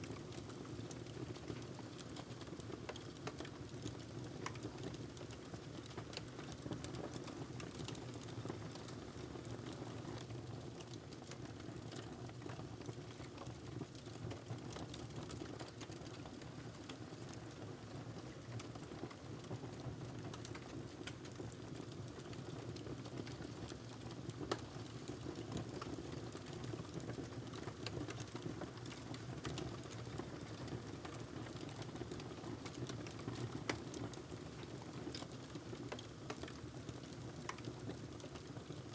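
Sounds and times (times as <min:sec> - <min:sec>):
wood fire crackling: 0:00.2 - 0:17.3, 0:18.2 - 0:38.7.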